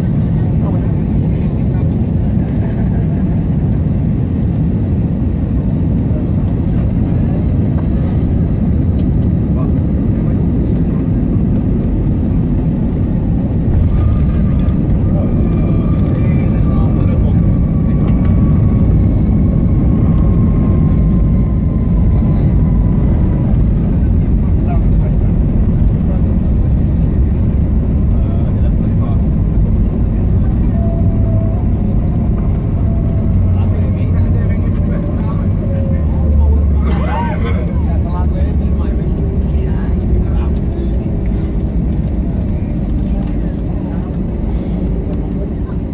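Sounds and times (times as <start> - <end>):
airliner cabin engine rumble: 0.0 - 45.9
faint whine: 0.0 - 45.9.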